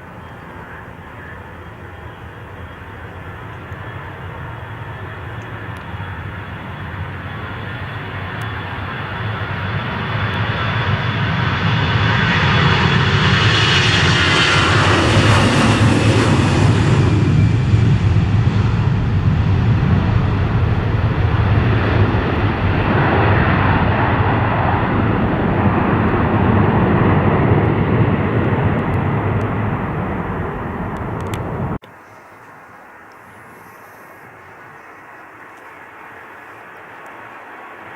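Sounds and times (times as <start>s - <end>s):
airliner engines roaring: 0.0s - 37.9s
jet engine whine: 0.0s - 37.9s.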